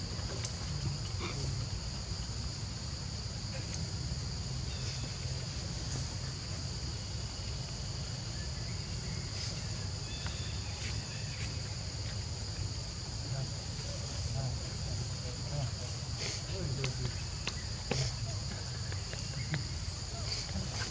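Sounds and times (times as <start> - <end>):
insects buzzing: 0.0 - 20.9.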